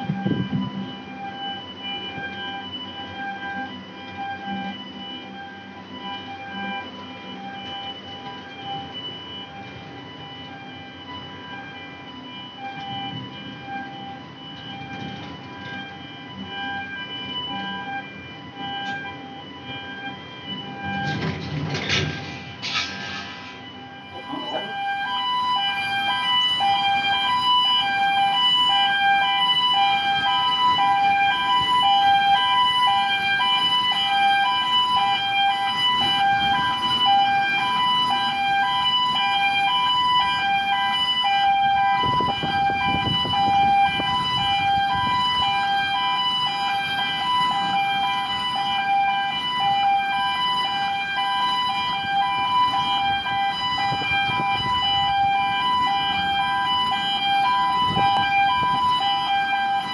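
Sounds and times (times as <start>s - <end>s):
two-tone warning alarm: 0.0s - 59.9s.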